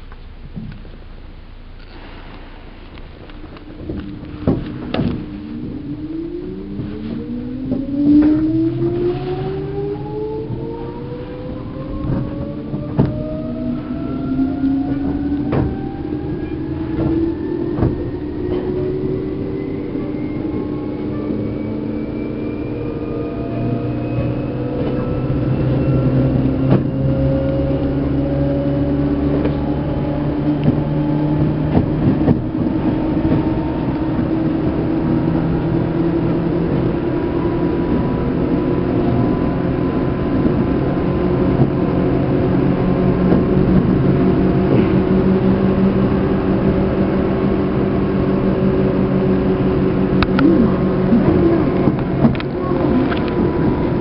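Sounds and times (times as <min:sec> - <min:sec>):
train wheels rumbling: 0:00.0 - 0:54.0
train motor whine: 0:02.8 - 0:54.0.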